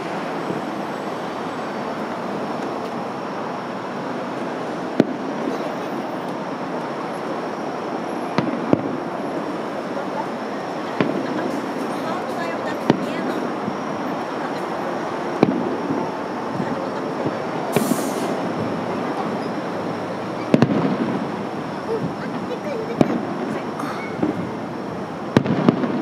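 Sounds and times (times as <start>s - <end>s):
firework bangs: 0.0s - 26.0s
steady background noise: 0.0s - 26.0s.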